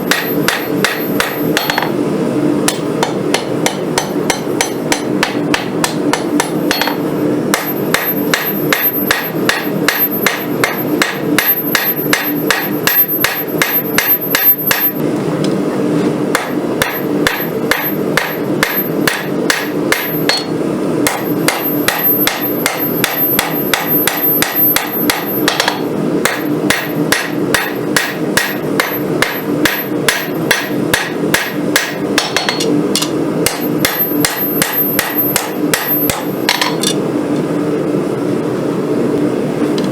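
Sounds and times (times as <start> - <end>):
hammer striking steel on anvil: 0.0 - 2.0, 2.7 - 15.0, 16.3 - 37.0
steady hum: 0.0 - 39.9.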